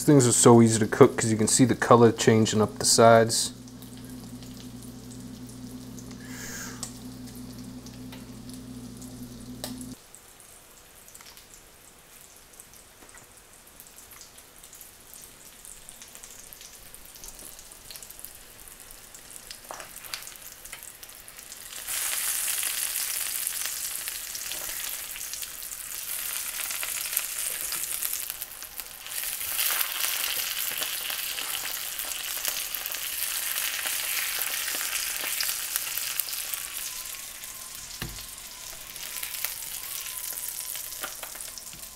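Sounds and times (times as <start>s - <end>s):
fish fillets sizzling in a pan: 3.6s - 10.0s, 13.6s - 41.9s.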